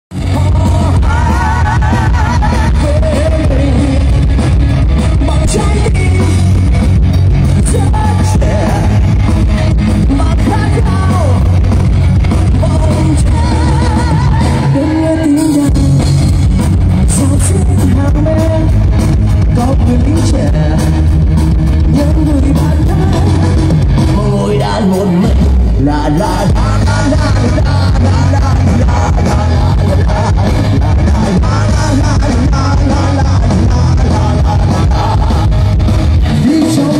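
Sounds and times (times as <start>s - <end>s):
live rock band playing: 0.1s - 36.9s.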